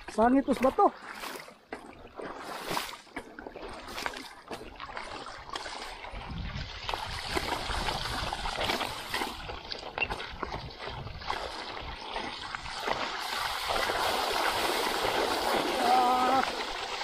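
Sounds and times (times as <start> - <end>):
river water splashing: 0.0 - 17.0.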